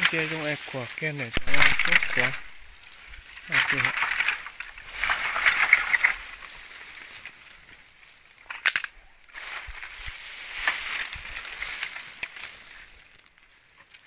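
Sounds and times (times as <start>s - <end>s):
twigs and leaves crackling underfoot: 0.0s - 14.0s
sharp cracks of snapping twigs: 1.3s - 9.9s, 10.6s - 14.0s.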